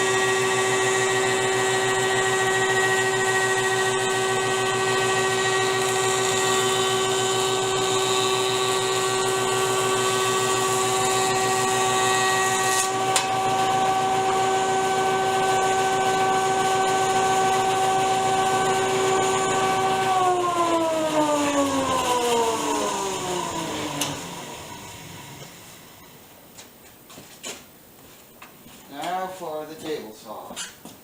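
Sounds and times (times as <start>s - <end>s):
power tool motor whine: 0.0s - 26.2s.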